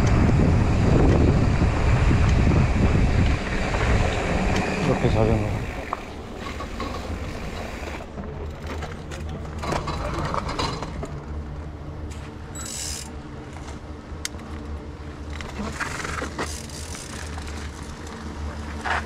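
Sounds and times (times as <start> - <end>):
bike rattles and clicks: 0.0 - 19.0.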